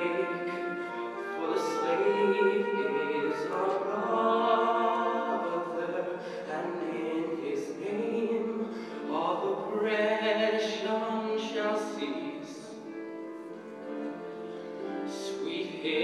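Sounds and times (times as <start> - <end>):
person singing in a church: 0.0 - 16.0.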